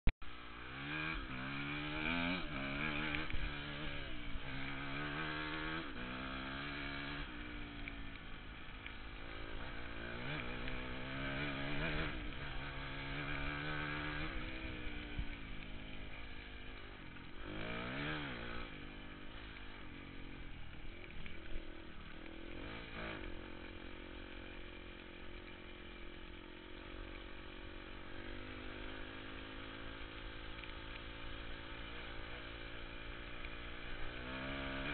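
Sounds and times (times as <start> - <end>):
dirt bike engine revving: 0.3 - 34.9.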